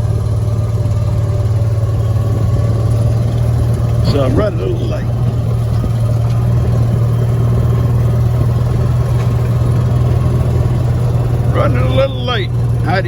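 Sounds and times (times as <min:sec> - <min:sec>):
farm vehicle engine droning: 0:00.0 - 0:13.0.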